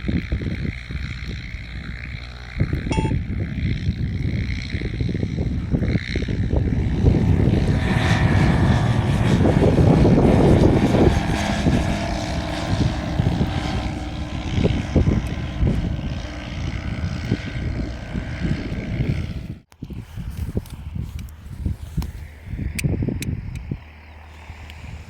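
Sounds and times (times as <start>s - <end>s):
propeller aircraft engine: 0.0s - 25.0s.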